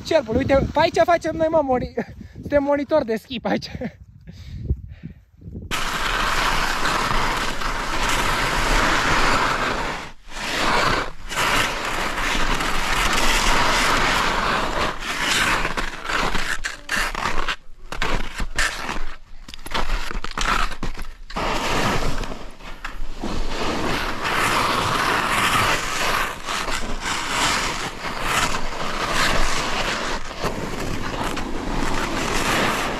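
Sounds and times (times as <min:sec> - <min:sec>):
skis scraping over snow: 0:00.0 - 0:02.0, 0:05.7 - 0:32.9.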